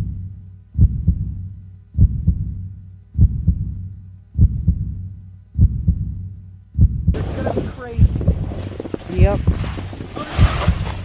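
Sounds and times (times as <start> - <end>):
low steady hum: 0.0 - 11.0
heartbeat double thump: 0.8 - 11.0.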